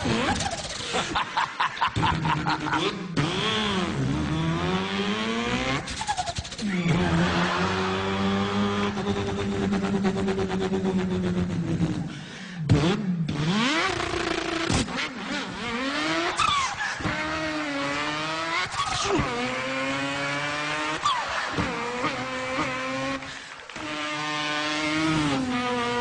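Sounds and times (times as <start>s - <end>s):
man imitating car engine: 0.0s - 14.7s, 15.5s - 26.0s.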